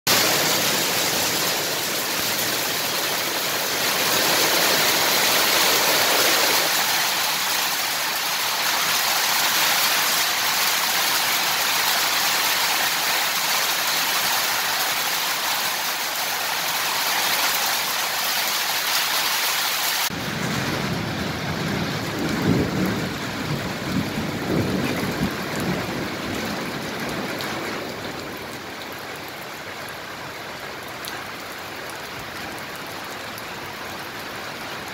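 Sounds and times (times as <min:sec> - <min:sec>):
heavy rain falling: 0:00.1 - 0:34.9
water pouring off a roof: 0:00.1 - 0:34.9.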